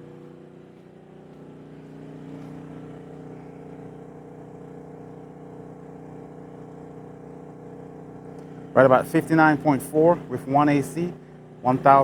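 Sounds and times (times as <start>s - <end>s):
generator running with steady hum: 0.0s - 12.0s.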